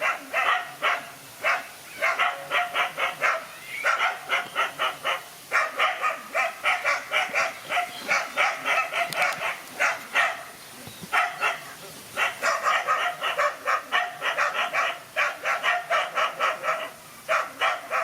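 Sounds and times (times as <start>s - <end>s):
dogs barking: 0.0s - 18.0s.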